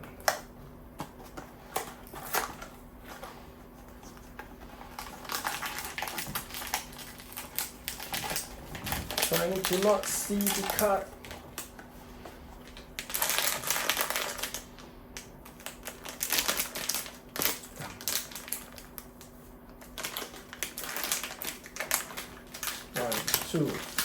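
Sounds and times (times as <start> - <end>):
packaging crackling and rustling: 1.0 - 11.9, 12.6 - 24.0.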